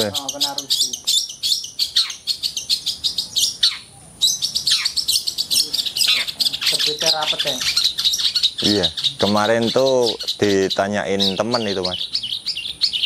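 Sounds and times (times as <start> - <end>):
bird singing chattering notes: 0.0 - 13.0.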